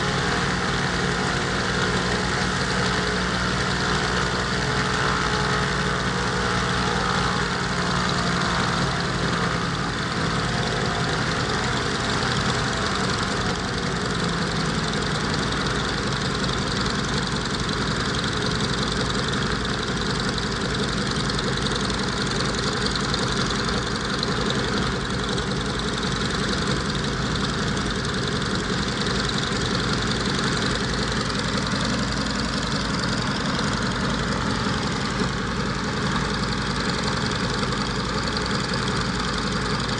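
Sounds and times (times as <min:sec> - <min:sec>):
radial piston aircraft engine running: 0:00.0 - 0:39.9.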